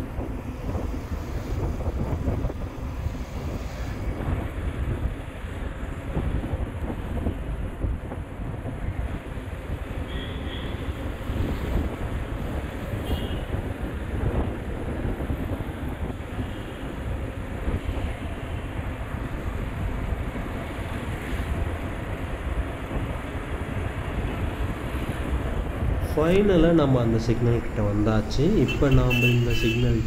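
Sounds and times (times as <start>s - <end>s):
motorbike road noise: 0.0s - 30.0s
wind buffeting microphone: 0.0s - 30.0s.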